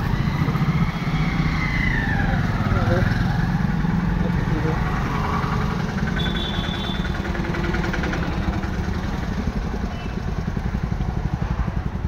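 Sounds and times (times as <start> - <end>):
car and motorcycle engines: 0.0 - 12.0.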